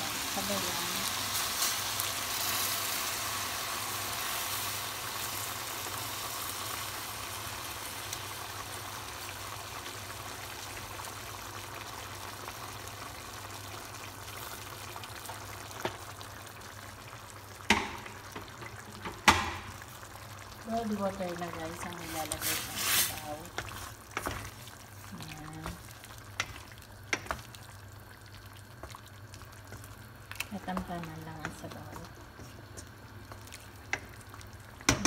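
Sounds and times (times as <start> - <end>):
water pouring into sizzling pan: 0.0 - 32.0.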